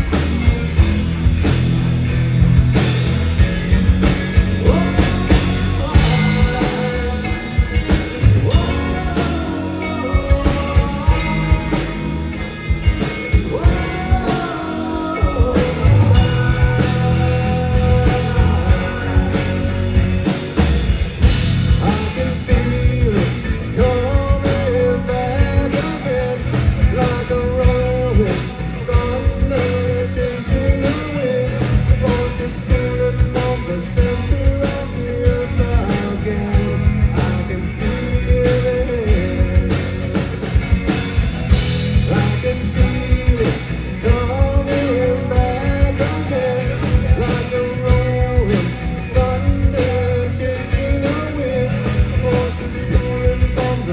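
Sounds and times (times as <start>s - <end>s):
melodic lead line: 0.0s - 53.9s
rock band playing live: 0.0s - 53.9s.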